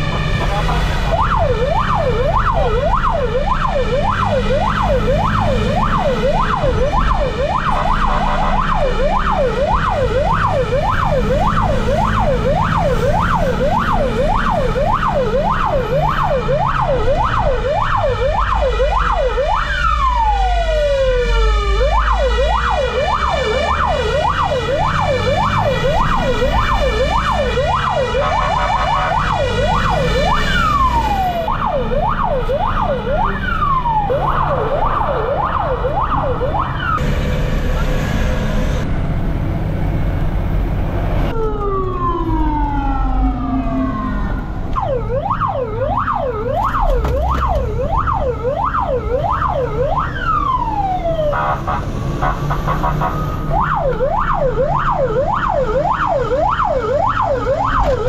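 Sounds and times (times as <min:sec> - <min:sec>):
fire engine siren yelping: 0:00.0 - 0:39.2, 0:41.3 - 0:58.0
engine and road rumble: 0:00.0 - 0:58.0.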